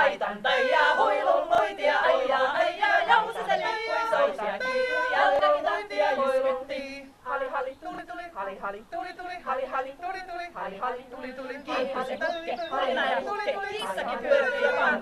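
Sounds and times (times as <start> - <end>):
women's choir singing a cappella: 0.0 - 15.0.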